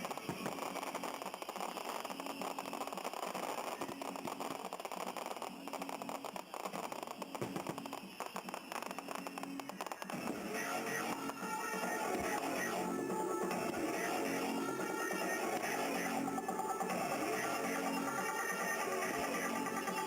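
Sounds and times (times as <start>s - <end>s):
faint music: 0.0s - 20.0s
fireworks crackling: 0.0s - 20.0s.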